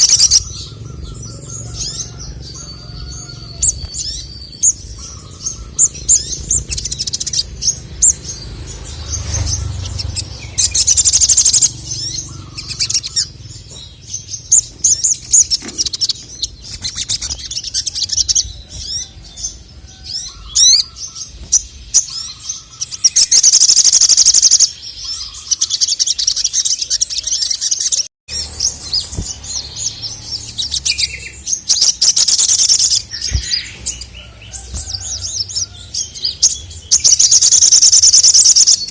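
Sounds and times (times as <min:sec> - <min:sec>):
bird chirping and trilling: 0:00.0 - 0:38.9.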